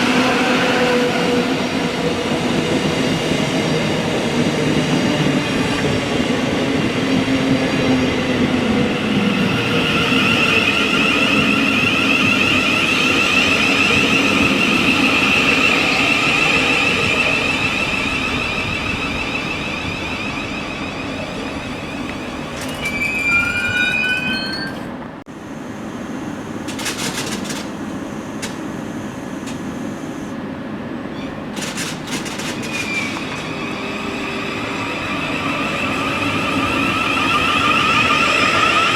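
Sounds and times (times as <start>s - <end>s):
high train whine: 0.0s - 38.9s
train rumbling: 0.0s - 38.9s.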